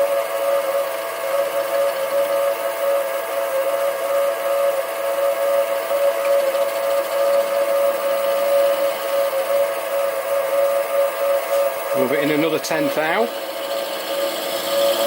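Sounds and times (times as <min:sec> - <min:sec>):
cutter milling metal: 0:00.0 - 0:15.0
lathe motor high whine: 0:00.0 - 0:15.0.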